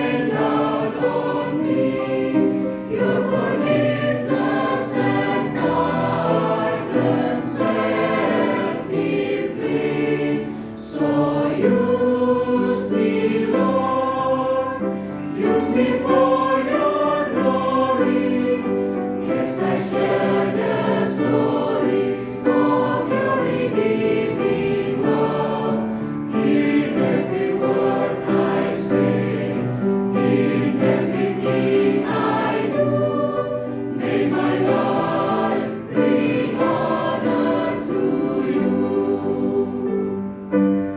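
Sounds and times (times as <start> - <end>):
choir singing an anthem: 0.0 - 40.9.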